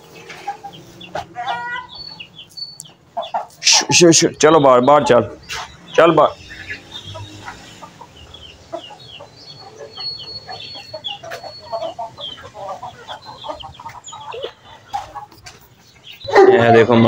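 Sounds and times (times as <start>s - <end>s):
chickens clucking: 0.0s - 17.0s
chicks peeping: 0.0s - 17.0s.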